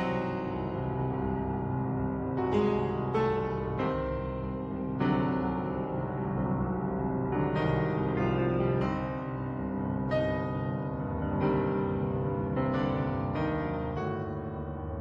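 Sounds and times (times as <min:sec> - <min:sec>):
piano music with struck chords: 0:00.0 - 0:15.0.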